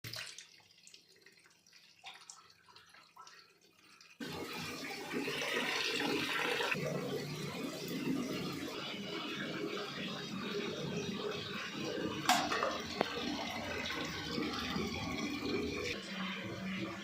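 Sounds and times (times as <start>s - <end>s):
water rushing in washing machine: 0.1s - 17.0s.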